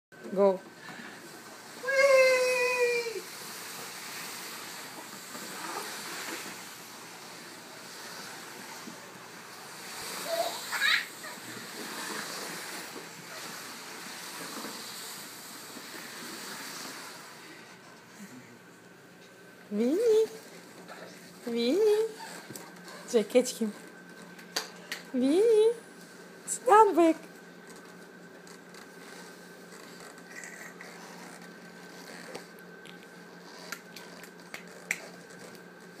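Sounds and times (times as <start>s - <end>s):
faint hum: 0.2s - 36.0s.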